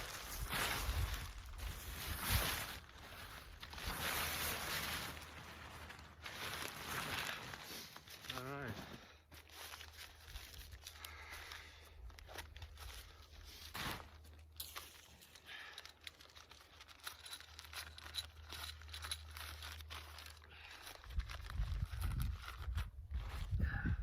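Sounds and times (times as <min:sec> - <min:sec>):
tent fabric rustling: 0:00.0 - 0:11.3, 0:12.4 - 0:20.4.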